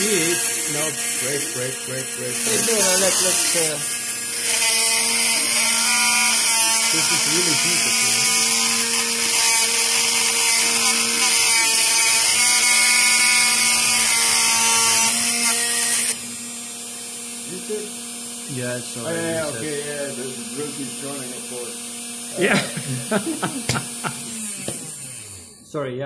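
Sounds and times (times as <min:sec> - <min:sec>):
high hiss of milling bit cutting: 0:00.0 - 0:25.2
spindle motor humming: 0:00.0 - 0:25.8.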